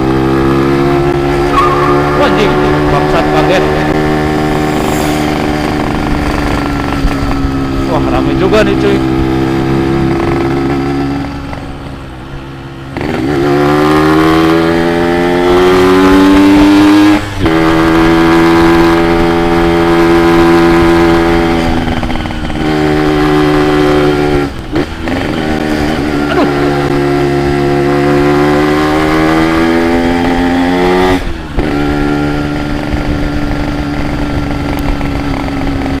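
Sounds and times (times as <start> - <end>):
two-stroke motorcycle engine revving: 0.0 - 36.0.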